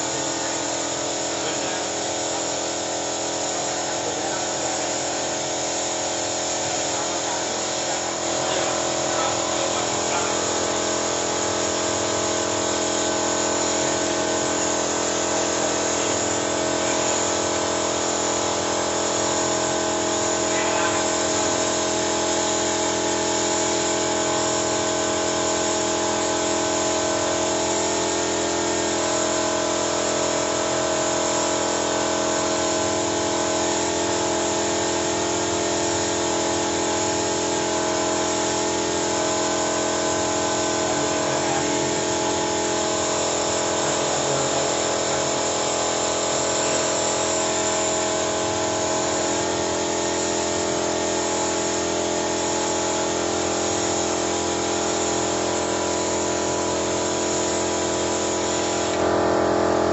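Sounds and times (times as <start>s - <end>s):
machinery whining and humming: 0.0s - 55.6s, 58.4s - 59.9s.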